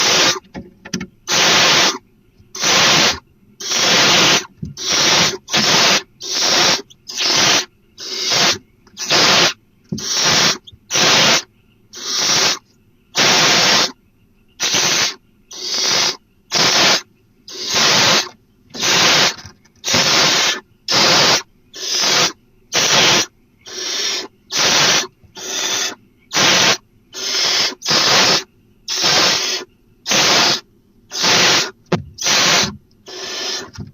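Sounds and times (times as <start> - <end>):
owl hissing screeches: 0.0 - 0.5, 1.3 - 14.0, 14.6 - 33.8.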